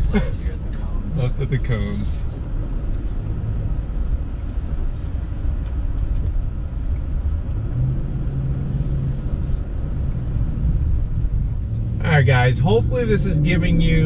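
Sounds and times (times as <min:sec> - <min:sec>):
truck engine rumble: 0:00.0 - 0:14.0
tyres on dirt track: 0:00.0 - 0:14.0.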